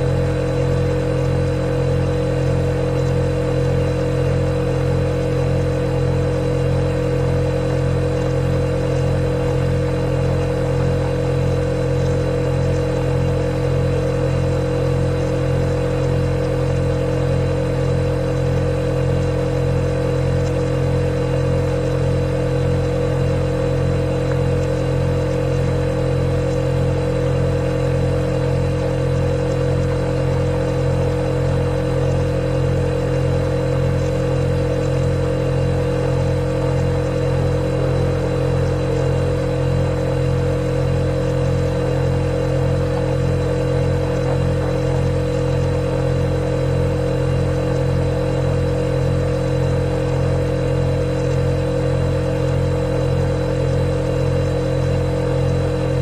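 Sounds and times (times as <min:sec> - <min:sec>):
refrigerator humming: 0:00.0 - 0:56.0.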